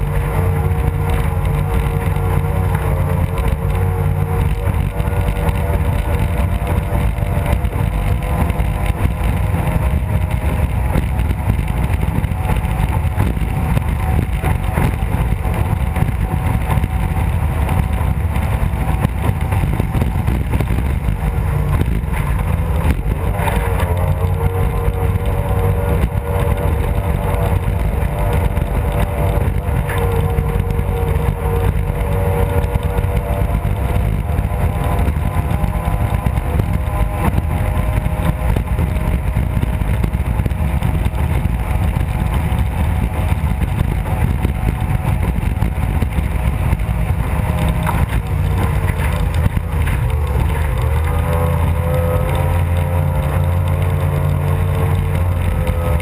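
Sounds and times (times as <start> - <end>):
outboard engine droning: 0.0 - 56.0
water rumble: 0.0 - 56.0
wind rumble: 0.0 - 56.0.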